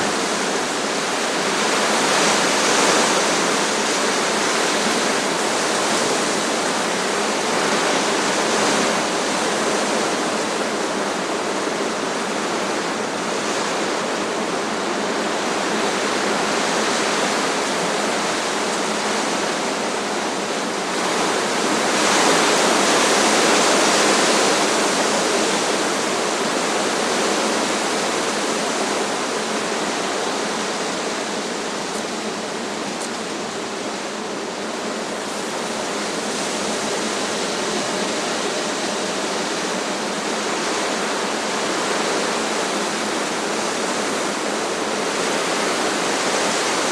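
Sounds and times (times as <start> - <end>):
strong wind rushing through trees: 0.0 - 46.9.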